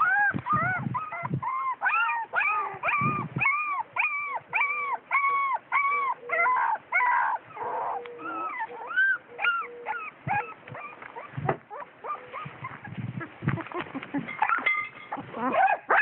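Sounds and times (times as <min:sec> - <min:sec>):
puppies whimpering: 0:00.0 - 0:16.0.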